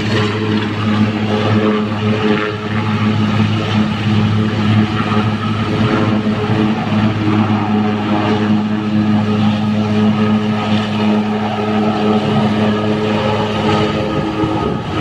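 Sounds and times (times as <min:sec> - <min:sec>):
helicopter turbines and rotors: 0:00.0 - 0:15.0.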